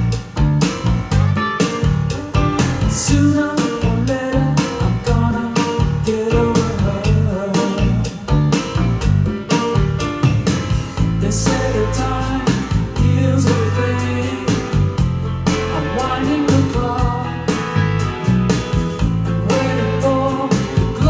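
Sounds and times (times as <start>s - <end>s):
song with singing and guitar: 0.0s - 21.0s.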